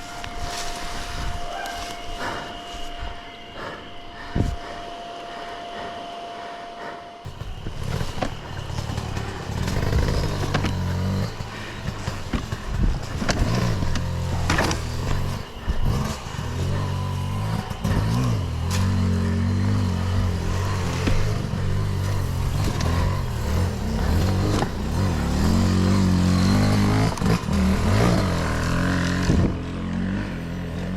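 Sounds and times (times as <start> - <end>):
motorcycle engine revving: 0.0 - 6.1, 7.2 - 30.9.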